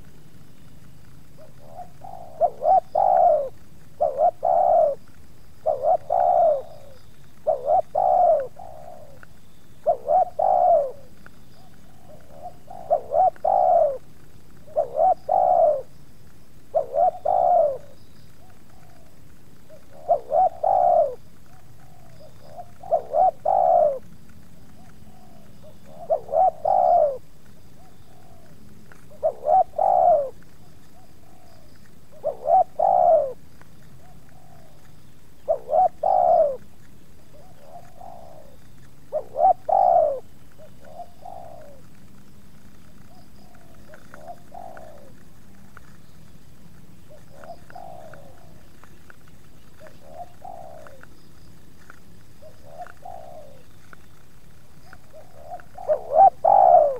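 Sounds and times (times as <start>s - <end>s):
dove cooing: 0.8s - 16.0s, 16.6s - 46.2s, 47.0s - 56.9s.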